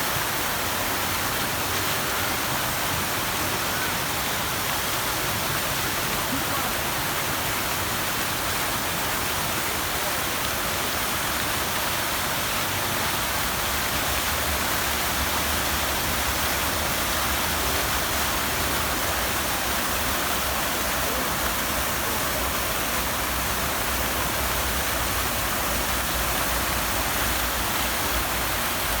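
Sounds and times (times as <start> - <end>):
rushing water hiss: 0.0 - 29.0.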